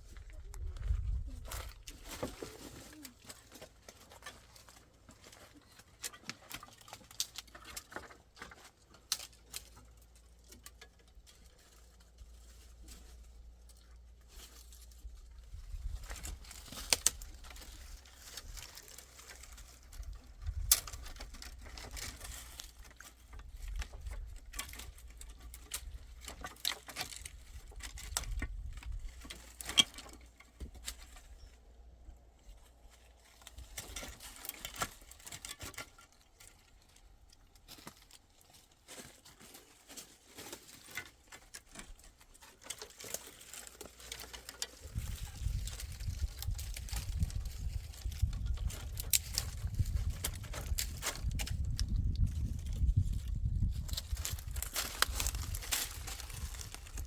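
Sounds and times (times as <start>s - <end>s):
rustling and pattering from handling: 0.0s - 57.0s.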